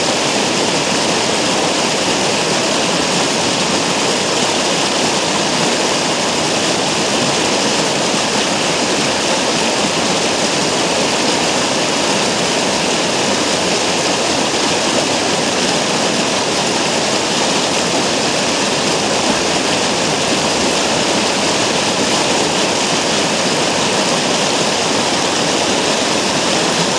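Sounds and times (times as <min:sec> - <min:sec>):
stream water rushing over rock: 0:00.0 - 0:26.9.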